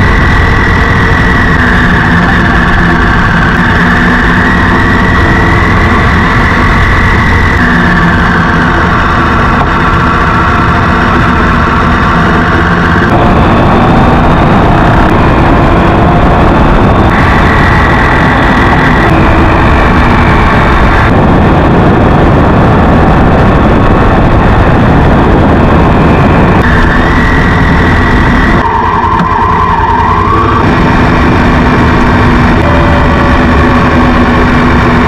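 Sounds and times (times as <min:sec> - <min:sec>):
tyres on wet road: 0:00.0 - 0:35.0
vehicle engine: 0:00.0 - 0:35.0.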